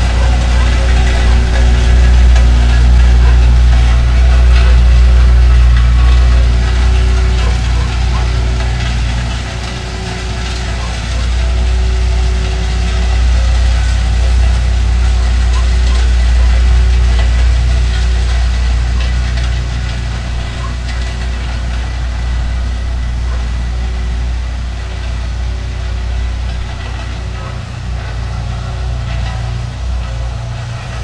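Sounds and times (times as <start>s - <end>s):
road roller engine drone: 0.0s - 31.0s.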